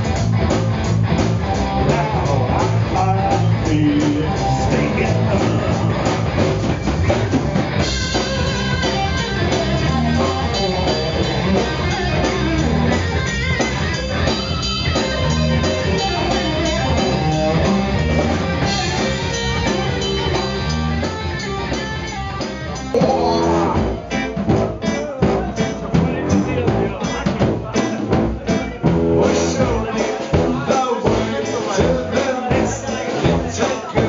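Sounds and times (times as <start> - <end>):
blues rock band playing: 0.0 - 34.0.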